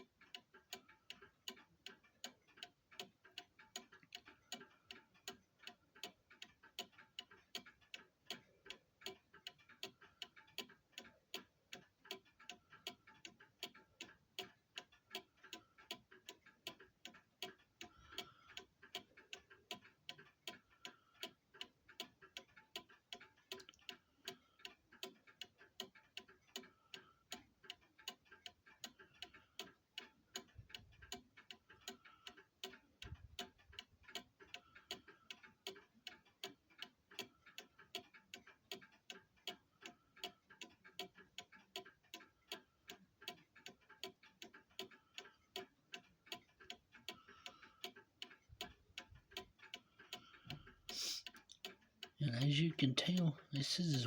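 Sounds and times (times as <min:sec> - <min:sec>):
clock escapement ticking: 0:00.0 - 0:54.0.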